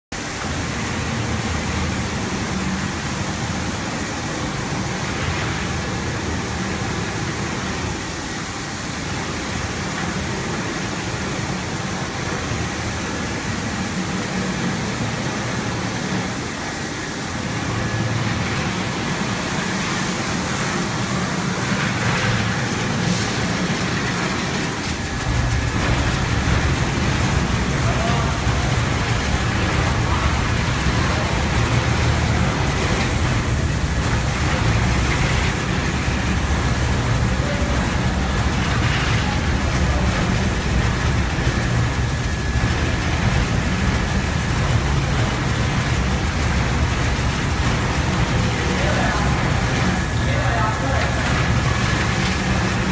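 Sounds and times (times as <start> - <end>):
carpet washing machine running: 0.1 - 52.9
water washing: 0.2 - 52.9.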